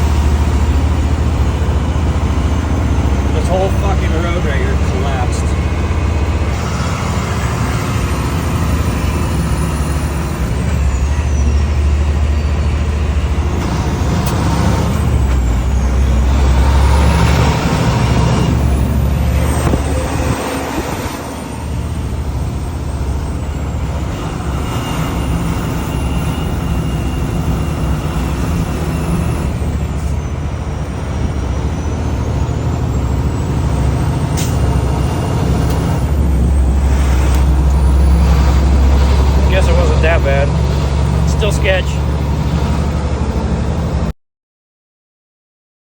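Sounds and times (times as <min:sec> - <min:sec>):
tow truck diesel engine rumbling: 0:00.0 - 0:44.1.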